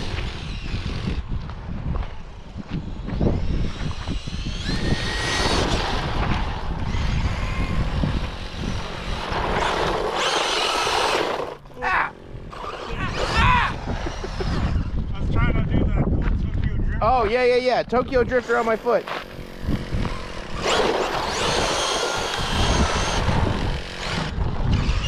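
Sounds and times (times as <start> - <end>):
radio-controlled car motor whine: 0.0 - 1.3, 2.0 - 11.7, 12.4 - 15.1, 18.3 - 25.0.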